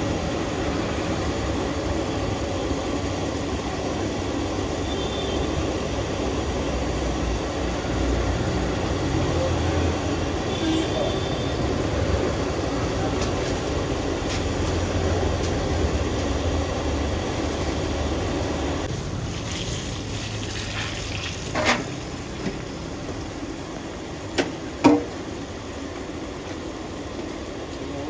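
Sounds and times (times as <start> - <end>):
low traffic rumble: 0.0 - 28.0
snacks frying in hot oil: 0.0 - 28.0.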